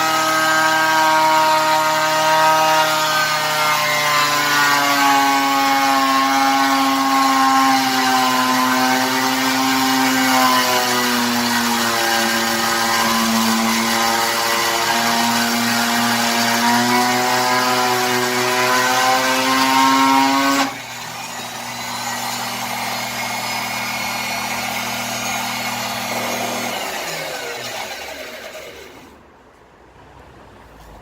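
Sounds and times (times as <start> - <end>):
power tool cutting wood: 0.0 - 29.2.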